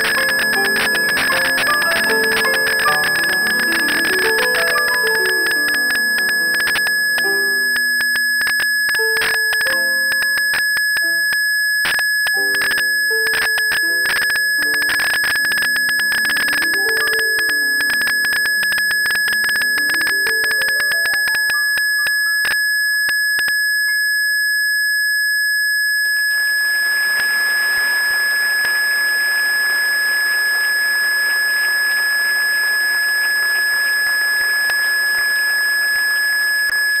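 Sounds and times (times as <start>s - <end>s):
steady high-pitched whine: 0.0s - 37.0s.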